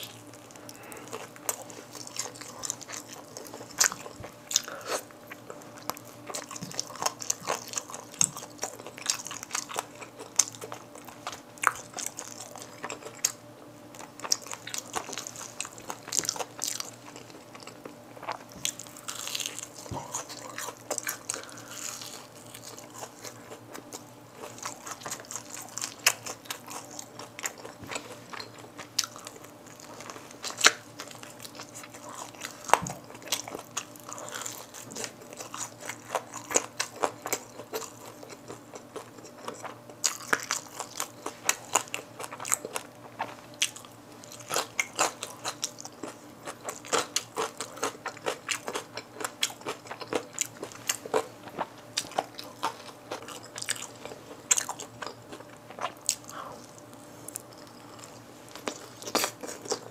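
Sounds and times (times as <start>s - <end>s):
chewing: 0.0s - 59.9s
crunching fried chicken: 0.0s - 59.9s.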